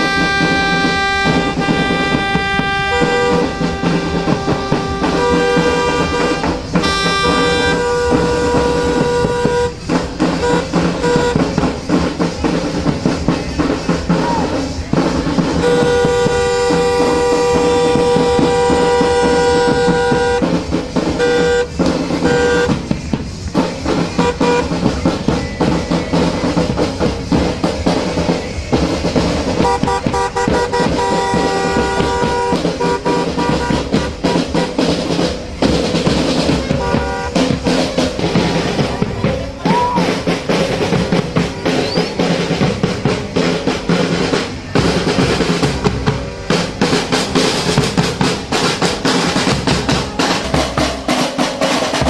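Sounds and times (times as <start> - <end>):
horn blasts: 0.0 - 52.0
marching band drums: 0.0 - 52.0.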